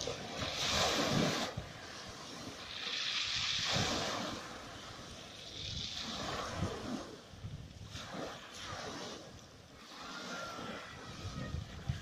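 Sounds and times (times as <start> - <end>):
sea waves washing onto beach: 0.0 - 12.0
wind rumbling on microphone: 0.0 - 12.0.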